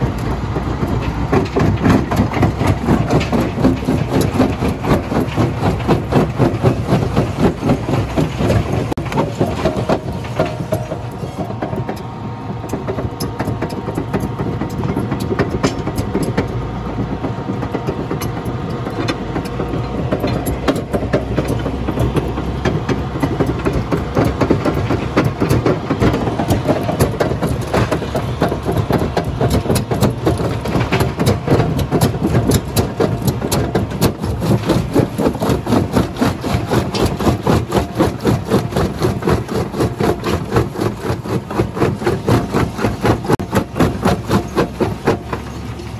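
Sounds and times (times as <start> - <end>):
jaw crusher knocking: 0.0 - 45.6.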